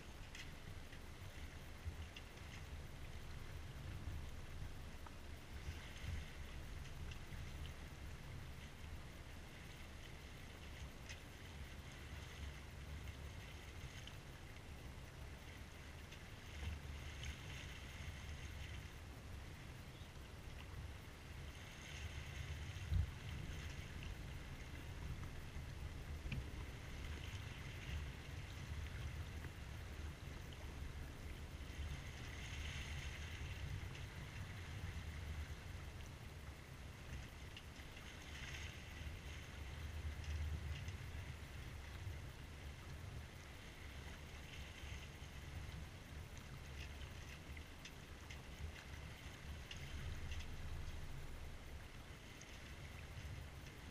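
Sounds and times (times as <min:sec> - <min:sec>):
water rushing along boat hull: 0:00.0 - 0:53.9
wind rumble on microphone: 0:00.0 - 0:53.9.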